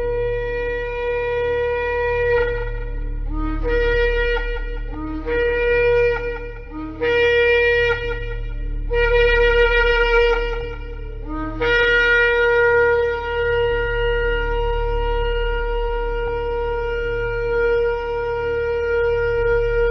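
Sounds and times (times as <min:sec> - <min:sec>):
shofar blasts: 0:00.0 - 0:19.9.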